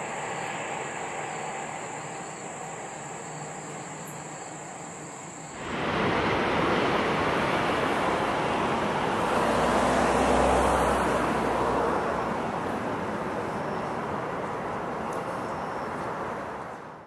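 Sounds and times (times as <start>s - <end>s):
high-speed train rushing past: 0.0s - 14.9s.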